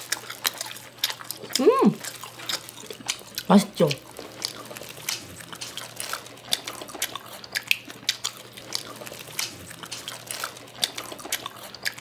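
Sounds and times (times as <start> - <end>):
close chewing mouth smacks: 0.0 - 12.0.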